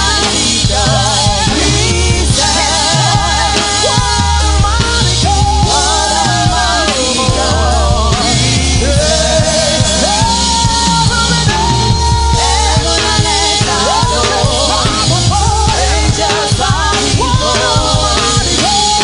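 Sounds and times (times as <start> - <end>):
band with heavy bass: 0.0 - 19.0
person singing with vibrato: 0.0 - 19.0.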